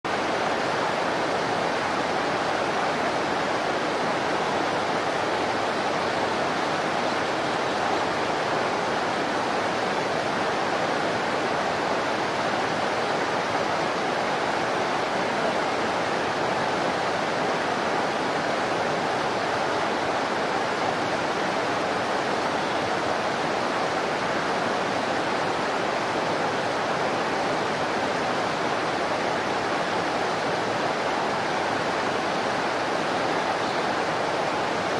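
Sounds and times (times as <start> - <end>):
river rushing over rocks: 0.1 - 34.9.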